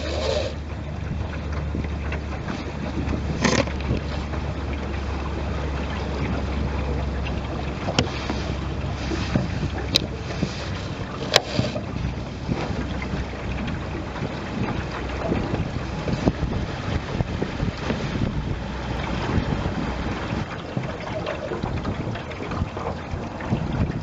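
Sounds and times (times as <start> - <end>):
low rumble: 0.0 - 24.0
water along boat hull: 0.0 - 24.0
wind buffeting microphone: 0.0 - 24.0.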